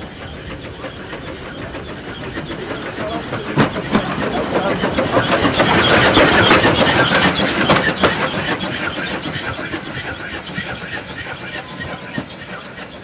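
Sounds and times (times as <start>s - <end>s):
steam locomotive passing: 0.0s - 13.0s.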